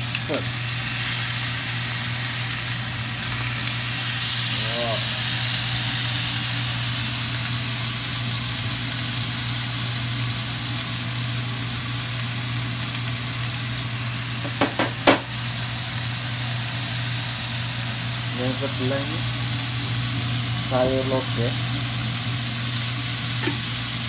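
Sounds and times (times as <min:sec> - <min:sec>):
steaks sizzling in a pan: 0:00.0 - 0:24.0.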